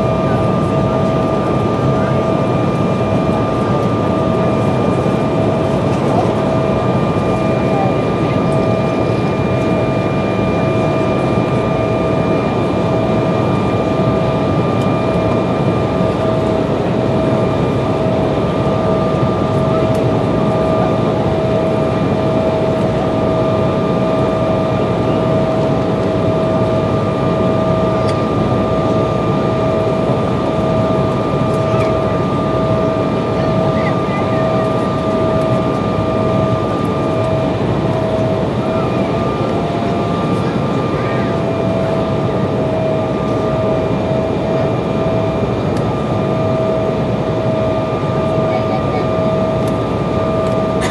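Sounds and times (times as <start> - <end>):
airliner cabin noise: 0.0 - 50.9.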